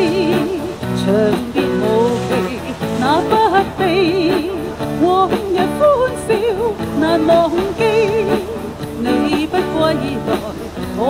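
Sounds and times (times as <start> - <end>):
instrumental backing music: 0.0 - 11.0
person singing with vibrato: 0.0 - 11.0.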